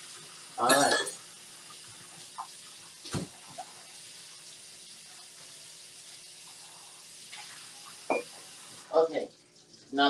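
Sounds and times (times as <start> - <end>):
hands rinsing dishes: 0.0 - 8.8.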